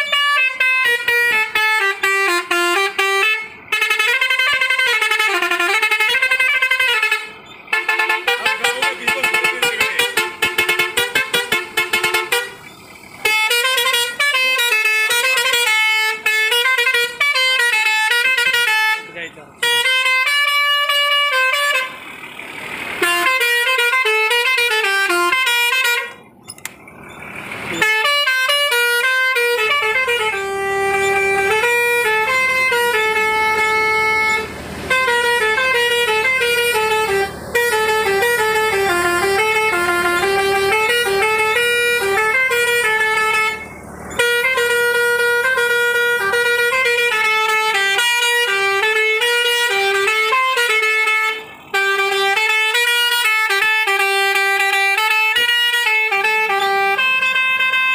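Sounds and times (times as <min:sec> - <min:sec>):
truck musical horn: 0:00.0 - 0:57.9.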